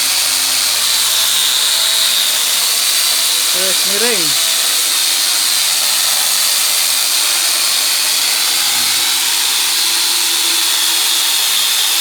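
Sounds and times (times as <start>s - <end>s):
chainsaw attachment whining: 0.0s - 12.0s.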